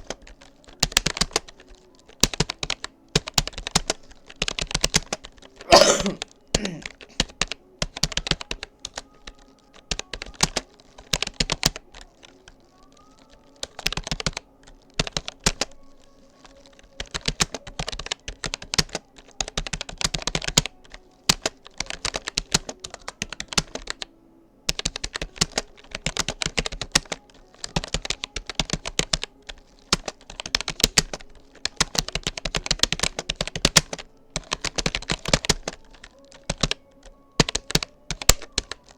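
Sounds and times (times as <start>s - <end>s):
keyboard typing clicks: 0.0s - 24.1s, 24.7s - 38.9s.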